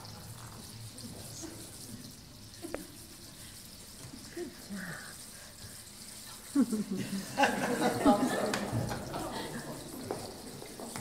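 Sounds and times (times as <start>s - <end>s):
water trickling in stone basin: 0.0s - 11.0s.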